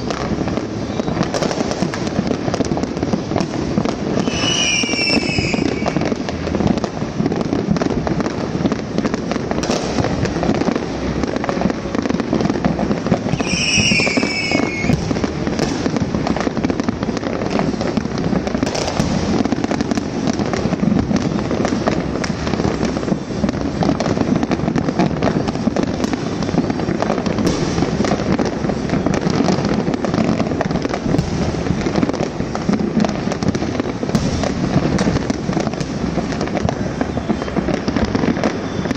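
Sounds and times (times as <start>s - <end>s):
falling firework whistle: 0.0s - 38.9s
fireworks popping and banging: 0.0s - 38.9s.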